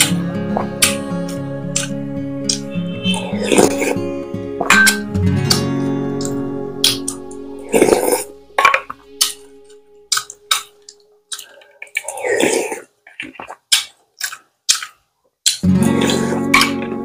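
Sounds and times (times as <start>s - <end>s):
chewing and mouth smacks: 0.0s - 4.0s, 4.6s - 16.9s.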